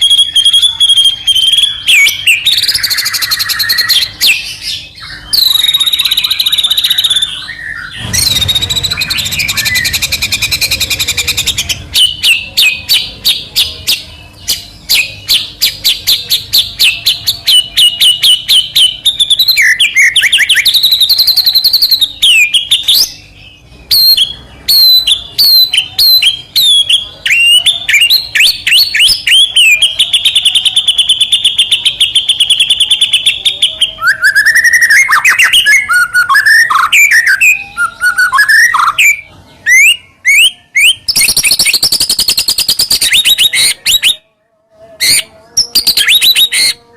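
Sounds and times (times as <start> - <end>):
songbird singing: 0.0 - 44.3.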